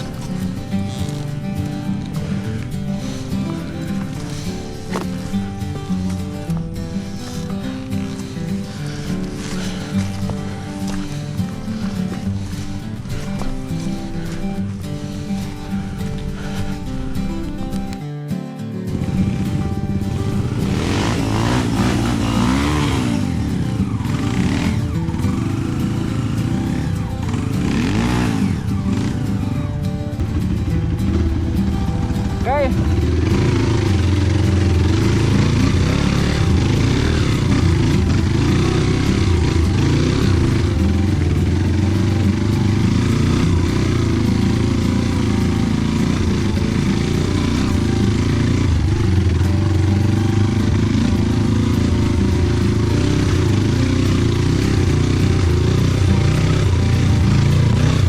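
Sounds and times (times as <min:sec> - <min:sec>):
motorcycle engine revving: 0:00.0 - 0:18.0, 0:18.8 - 0:58.0.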